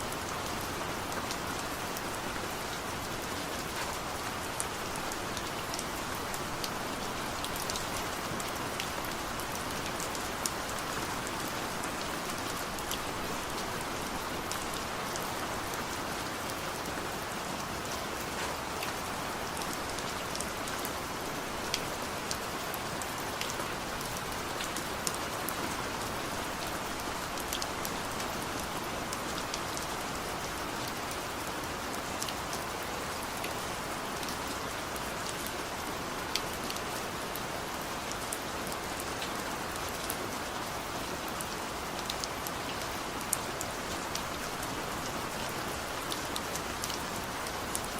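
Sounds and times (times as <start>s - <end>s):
raindrops ticking on a surface: 0.1s - 47.9s.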